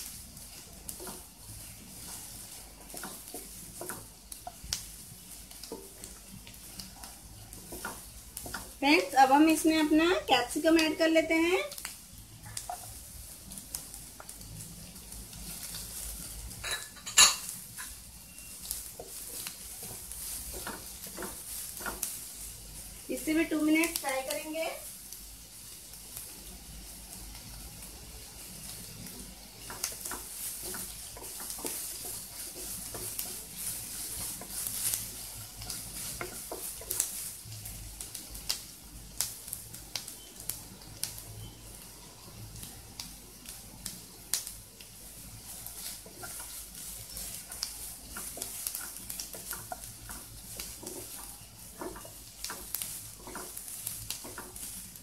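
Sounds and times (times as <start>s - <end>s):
wooden spatula scraping a pan: 0.0s - 11.4s, 12.4s - 24.9s, 25.6s - 39.1s, 44.7s - 55.0s
vegetables sizzling in butter: 0.0s - 55.0s.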